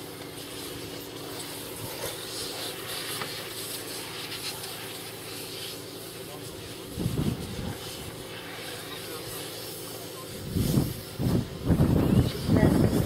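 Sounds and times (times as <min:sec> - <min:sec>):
outdoor background noise: 0:00.0 - 0:13.0
steady engine hum: 0:00.0 - 0:13.0.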